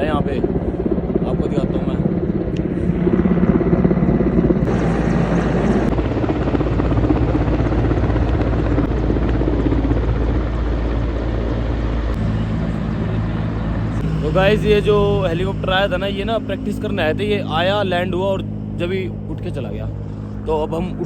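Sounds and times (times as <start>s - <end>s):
helicopter engine: 0.0s - 21.0s
helicopter rotor blades chopping: 0.0s - 21.0s.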